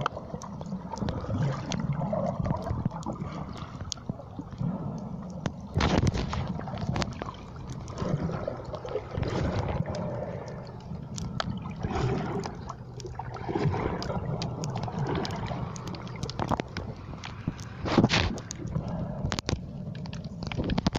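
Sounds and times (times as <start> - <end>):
muffled underwater water rumble: 0.0 - 20.9
small clicks and crackles: 0.0 - 20.9.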